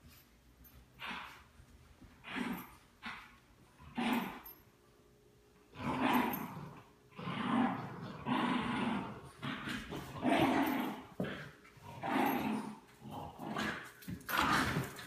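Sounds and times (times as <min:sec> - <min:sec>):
small dogs growling: 0:01.0 - 0:01.5, 0:02.2 - 0:04.5, 0:05.7 - 0:15.0.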